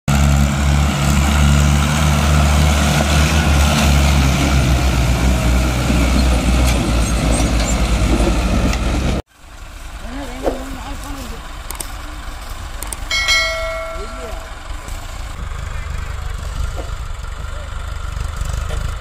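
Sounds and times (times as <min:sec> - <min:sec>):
tractor diesel engine rumbling: 0:00.1 - 0:19.0.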